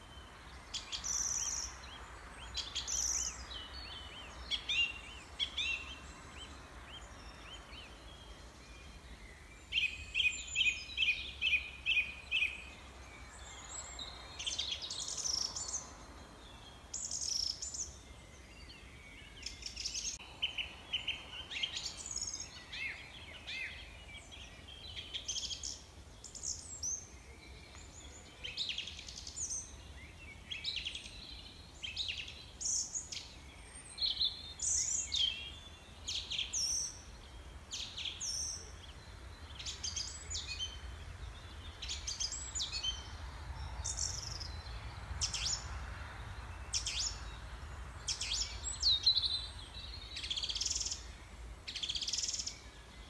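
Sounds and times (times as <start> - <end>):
small birds singing and chirping: 0.0 - 53.0.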